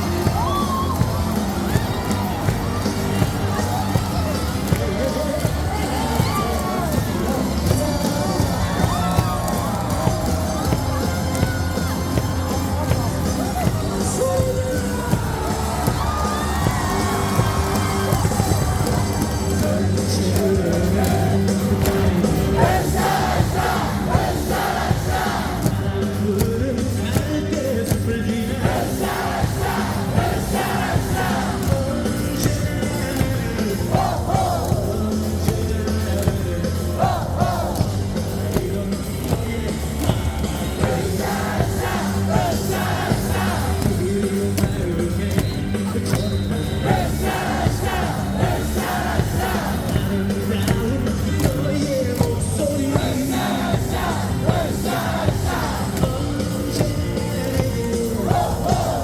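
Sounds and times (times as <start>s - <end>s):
crowd singing and chanting: 0.0s - 59.0s
loud amplified music: 0.0s - 59.0s.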